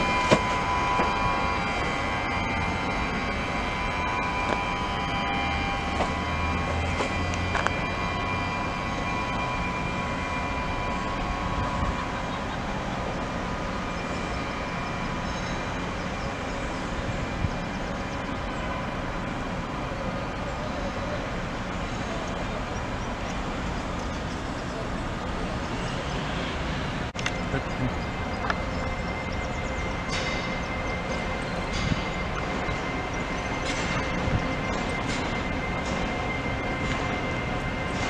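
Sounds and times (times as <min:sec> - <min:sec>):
faint whine: 0:00.0 - 0:38.0
train wheels rumbling: 0:00.0 - 0:38.0.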